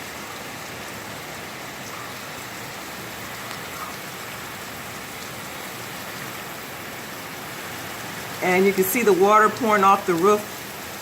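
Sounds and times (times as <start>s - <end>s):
heavy rain pouring: 0.0s - 11.0s
rain drops ticking: 0.0s - 11.0s.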